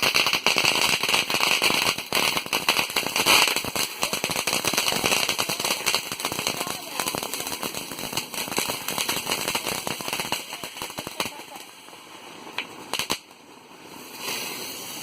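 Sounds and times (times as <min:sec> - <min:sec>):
firecrackers crackling and popping: 0:00.0 - 0:15.0.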